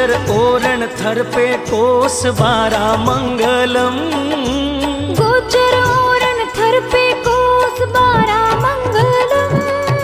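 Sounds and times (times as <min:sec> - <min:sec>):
devotional folk song melody: 0:00.0 - 0:10.0
regular drum beat: 0:00.0 - 0:10.0.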